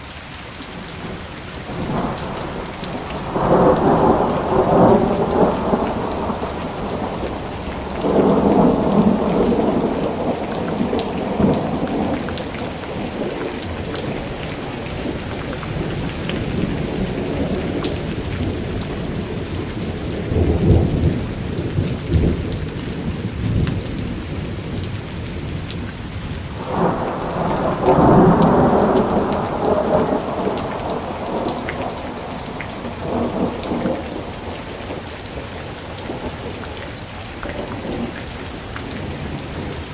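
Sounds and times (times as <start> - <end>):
heavy rain: 0.0 - 39.9
thunder rumbling: 0.8 - 39.9.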